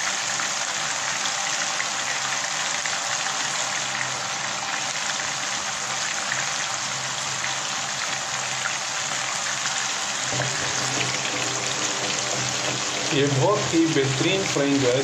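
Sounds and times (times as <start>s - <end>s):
meat deep-frying in hot oil: 0.0s - 15.0s.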